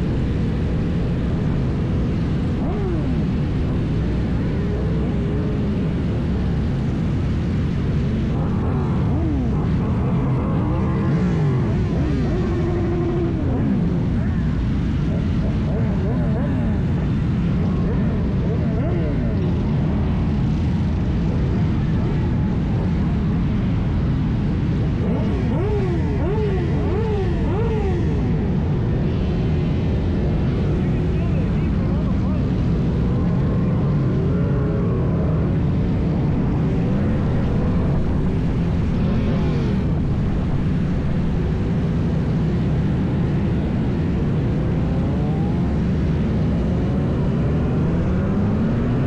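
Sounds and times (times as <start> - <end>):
motorcycle engine rumble: 0.0 - 49.0.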